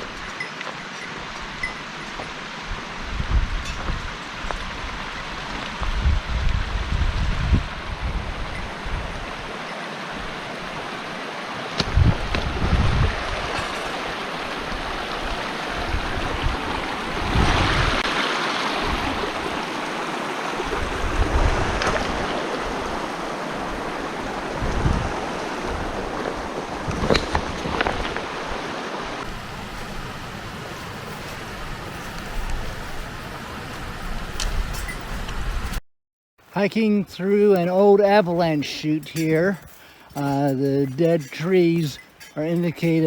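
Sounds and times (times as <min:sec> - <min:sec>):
mountain stream rushing: 0:00.0 - 0:35.8
wind gusting on microphone: 0:00.0 - 0:35.8.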